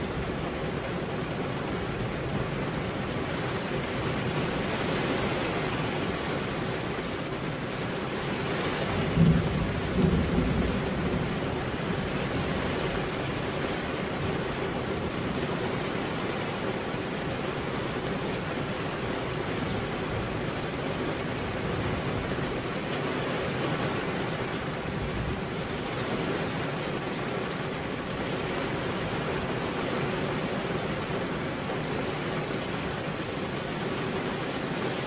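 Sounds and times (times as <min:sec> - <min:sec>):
rain on car window: 0:00.0 - 0:35.0.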